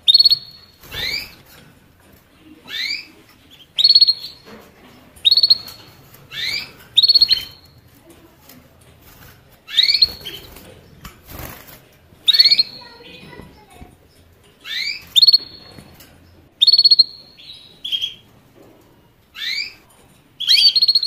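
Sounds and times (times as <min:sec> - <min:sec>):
finch chirping and trilling: 0:00.0 - 0:01.6, 0:02.6 - 0:08.0, 0:09.0 - 0:16.0, 0:16.6 - 0:18.3, 0:19.3 - 0:19.8, 0:20.4 - 0:21.0.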